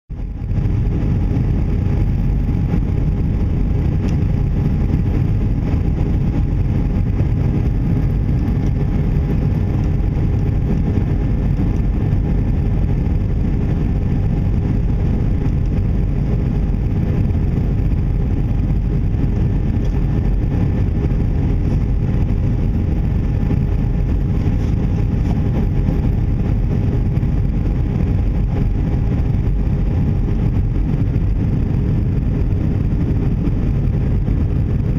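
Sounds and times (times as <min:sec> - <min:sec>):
airplane cabin rumble: 0:00.1 - 0:34.9.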